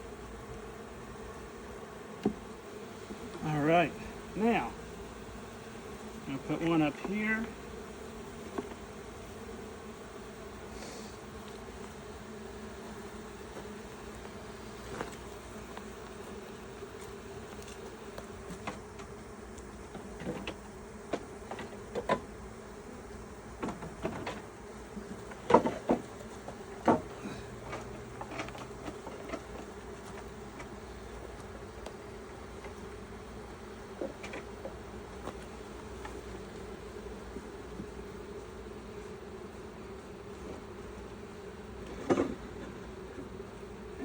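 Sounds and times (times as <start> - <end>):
bees buzzing: 0.0 - 44.0.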